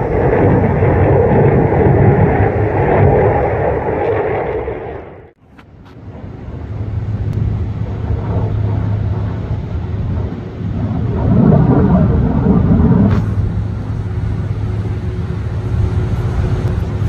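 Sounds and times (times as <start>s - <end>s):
jet aircraft engine rumble: 0.0s - 17.0s.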